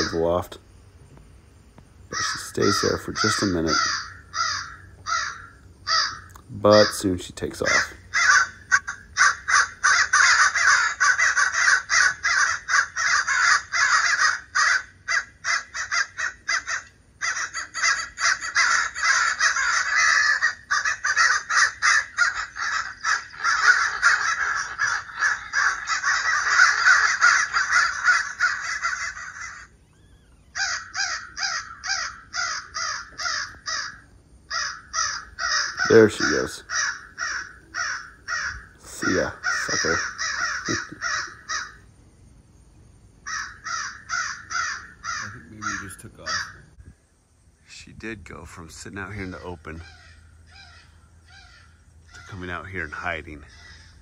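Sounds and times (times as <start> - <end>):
recorded crows cawing: 0.0 - 1.2, 1.8 - 47.1, 48.7 - 54.0.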